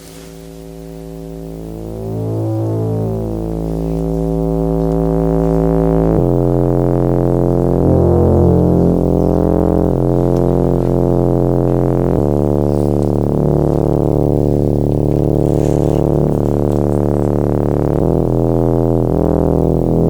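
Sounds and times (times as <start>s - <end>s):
synthesizer chords and drones: 0.0s - 20.0s.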